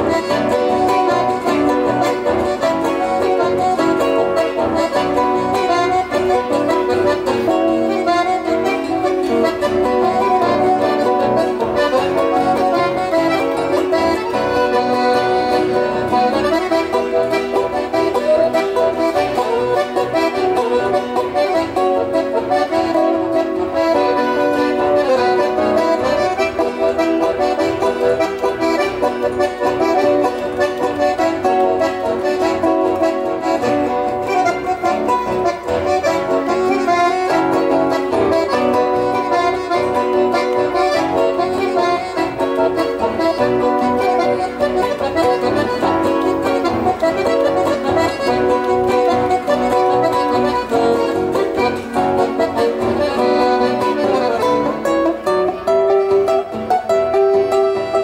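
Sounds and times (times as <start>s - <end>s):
lively accordion tune: 0.0s - 58.0s.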